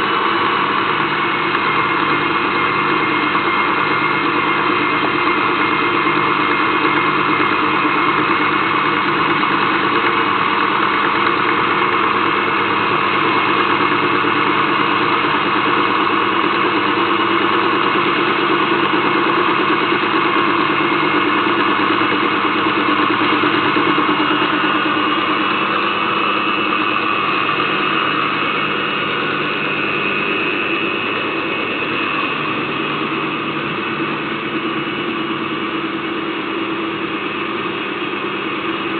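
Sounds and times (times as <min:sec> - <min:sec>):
boring machine humming: 0:00.0 - 0:38.9.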